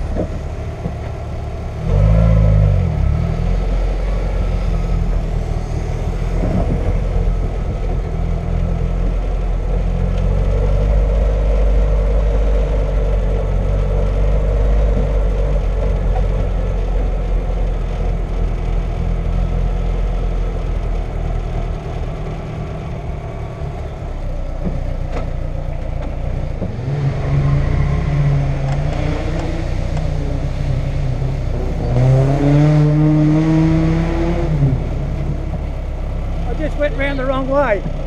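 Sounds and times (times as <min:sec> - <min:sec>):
car engine low drone: 0:00.0 - 0:38.0.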